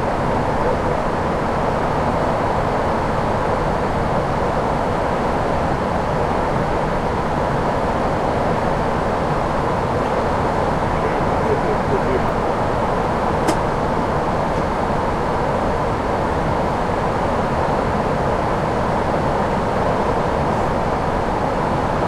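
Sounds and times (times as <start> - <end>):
airflow and engine noise: 0.0 - 22.0.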